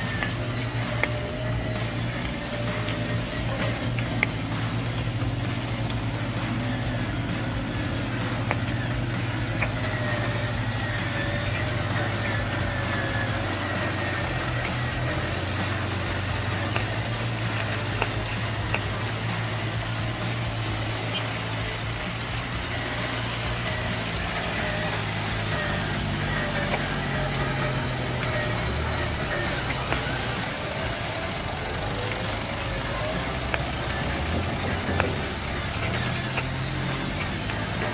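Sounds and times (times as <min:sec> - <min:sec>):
high wavering whine: 0:00.0 - 0:37.9
model truck engine hum: 0:00.0 - 0:37.9.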